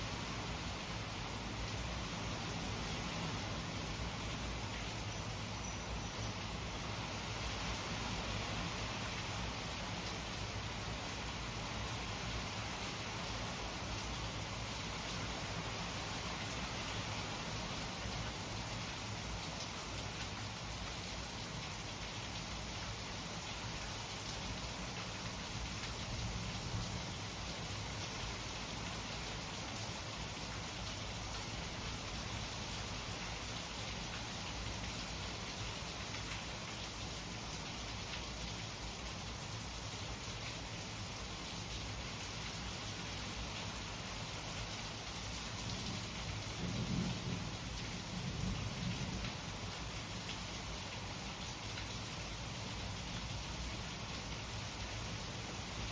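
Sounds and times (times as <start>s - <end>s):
steady rainfall pattering: 0.0s - 55.9s.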